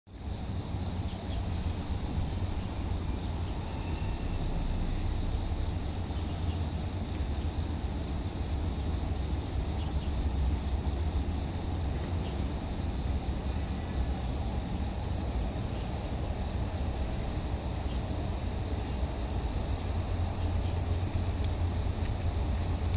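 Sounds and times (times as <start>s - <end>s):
distant road traffic rumble: 0.1s - 22.9s.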